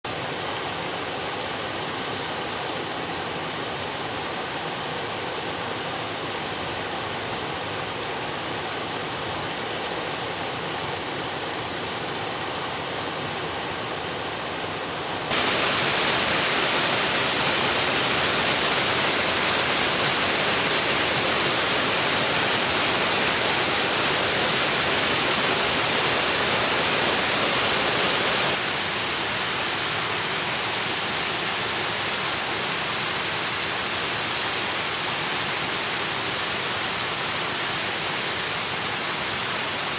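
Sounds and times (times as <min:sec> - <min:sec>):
river water rushing: 0:00.1 - 0:39.9.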